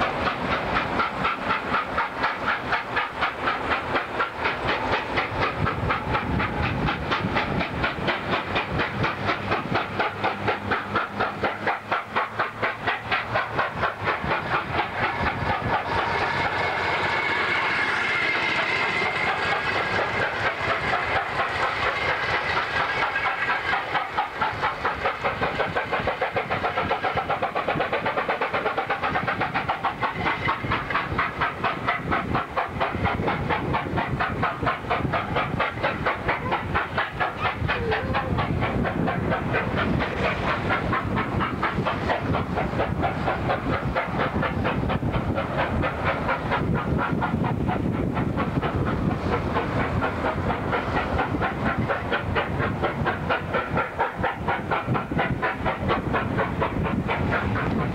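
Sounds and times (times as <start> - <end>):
rail clatter: 0.0 - 57.9
steam hiss: 0.0 - 57.9
steam locomotive exhaust beats: 0.0 - 57.9.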